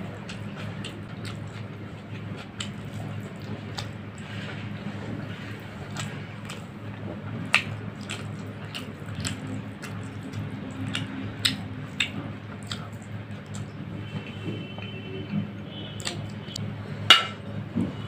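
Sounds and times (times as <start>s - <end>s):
steady low hum: 0.0s - 18.0s
chewing and mouth smacks: 0.1s - 14.4s, 16.0s - 16.7s.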